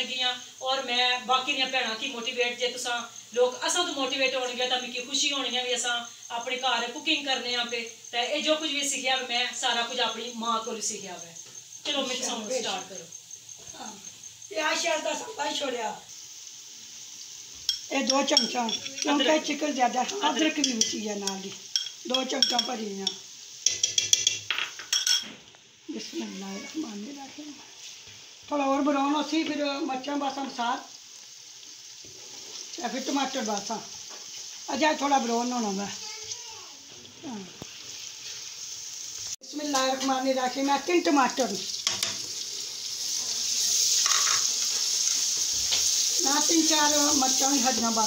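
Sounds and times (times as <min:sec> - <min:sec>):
food sizzling: 0:00.0 - 0:48.0.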